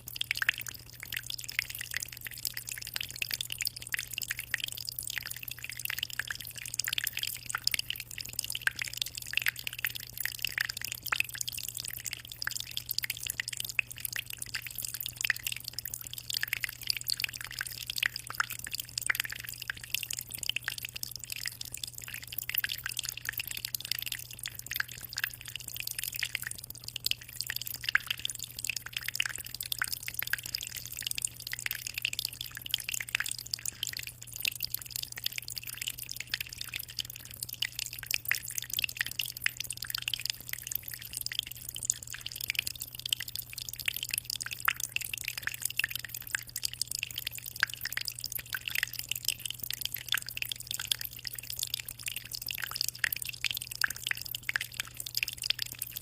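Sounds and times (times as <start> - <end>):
aquarium water trickling and splashing: 0.0 - 56.0.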